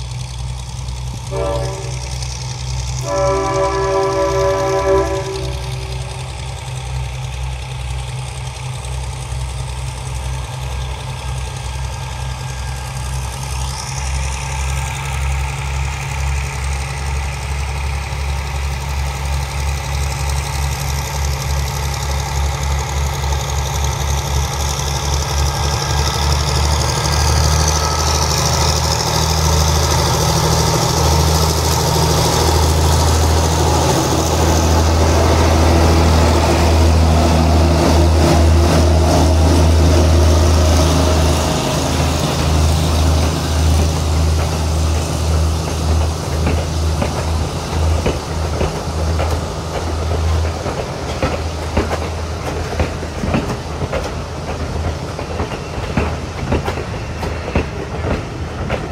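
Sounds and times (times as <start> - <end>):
locomotive engine throbbing: 0.0 - 58.9.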